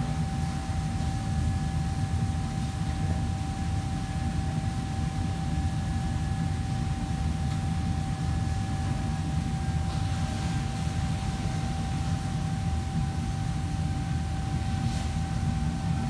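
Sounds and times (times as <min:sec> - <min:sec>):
kitchen ventilation fans droning: 0:00.0 - 0:16.0.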